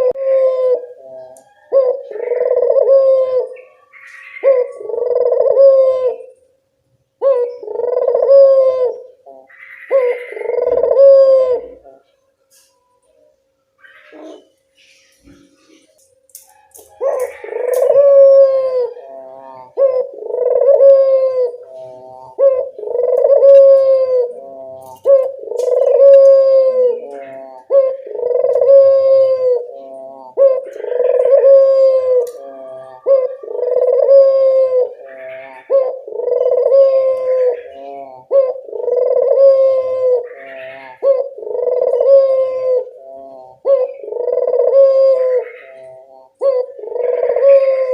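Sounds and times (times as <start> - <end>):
dove cooing: 0.0 - 6.5, 7.2 - 47.9.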